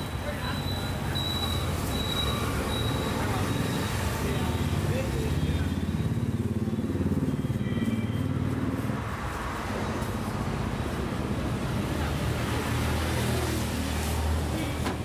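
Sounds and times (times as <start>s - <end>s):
traffic engine rumble: 0.0s - 15.0s.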